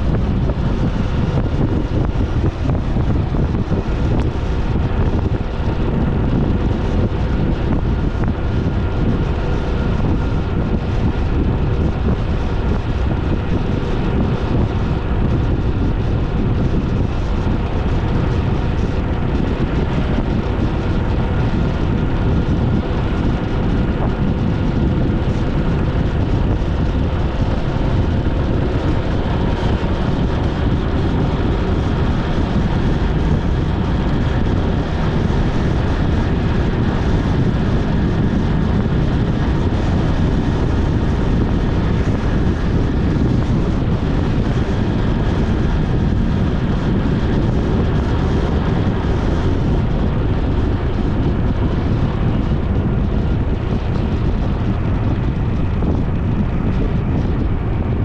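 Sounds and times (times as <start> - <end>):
motorcycle engine running: 0.0 - 58.0
road noise: 0.0 - 58.0
wind rushing over microphone: 0.0 - 58.0.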